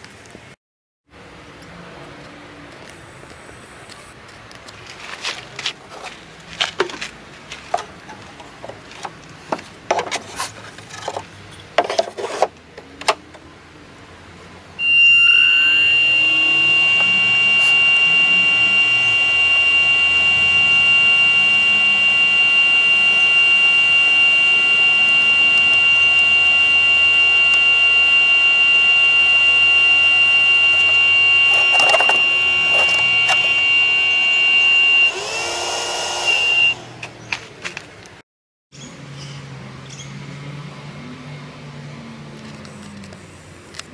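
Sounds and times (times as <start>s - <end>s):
blower fan whining: 1.2s - 38.2s.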